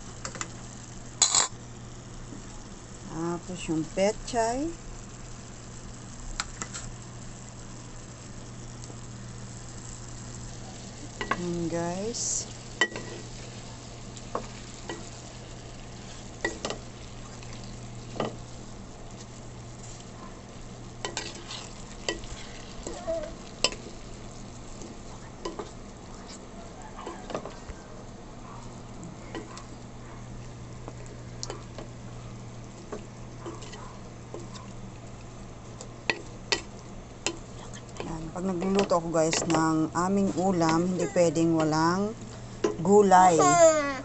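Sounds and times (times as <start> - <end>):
food sizzling in a pan: 0.0 - 44.0
steady low hum: 0.0 - 44.0.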